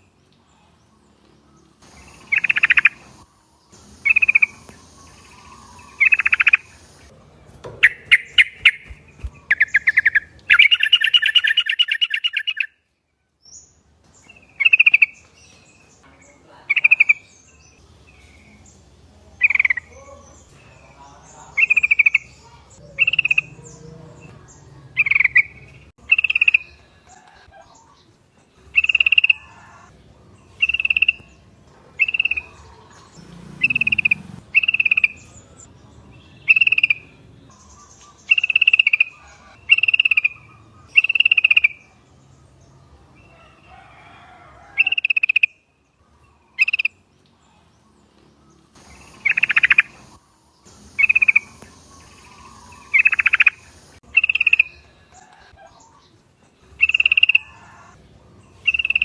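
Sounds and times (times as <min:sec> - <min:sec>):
bulbuls calling: 0:00.0 - 0:12.8, 0:14.2 - 0:59.0.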